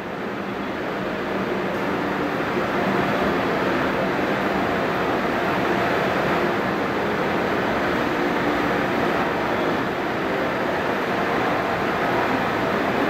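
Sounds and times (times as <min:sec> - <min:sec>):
stationary electric train humming: 0:00.0 - 0:13.0.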